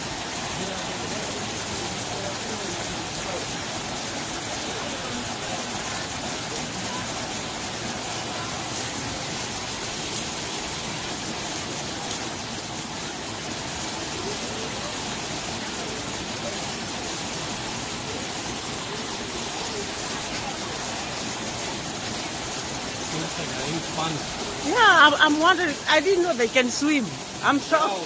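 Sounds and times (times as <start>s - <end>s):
waterfalls pouring into a pool: 0.0s - 28.0s.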